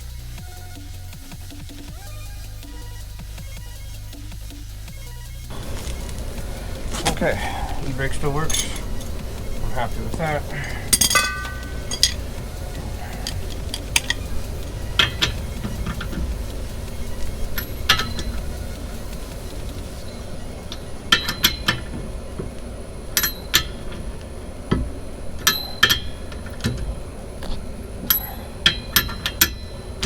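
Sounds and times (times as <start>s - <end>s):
metallic clinks of hand tools: 5.5s - 30.0s.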